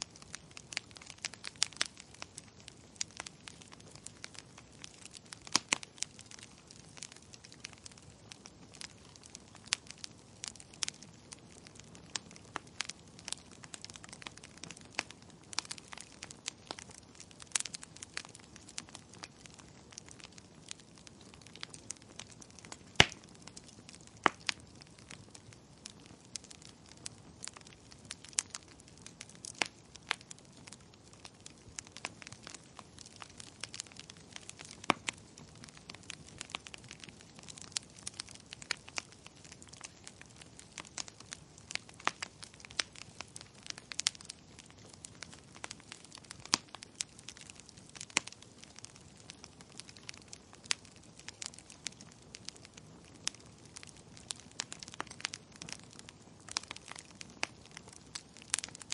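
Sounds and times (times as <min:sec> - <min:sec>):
sharp pops of fire: 0:00.0 - 0:58.9
soft steady hiss: 0:00.0 - 0:58.9
wood fire crackling: 0:00.0 - 0:58.9.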